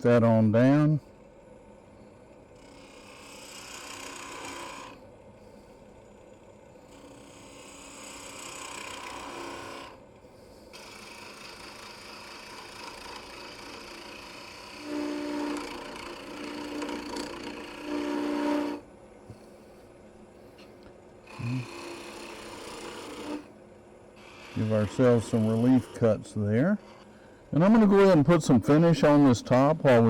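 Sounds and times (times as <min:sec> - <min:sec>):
gouge scraping wood on lathe: 0:02.5 - 0:05.6, 0:06.9 - 0:19.8, 0:20.4 - 0:23.6, 0:24.2 - 0:30.0.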